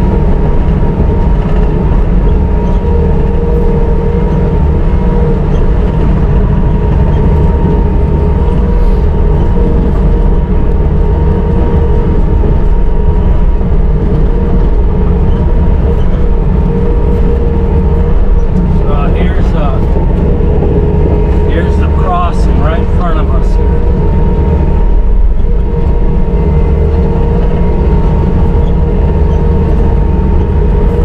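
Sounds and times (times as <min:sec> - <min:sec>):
diesel engine running: 0:00.0 - 0:31.0
steady whine: 0:00.0 - 0:31.0.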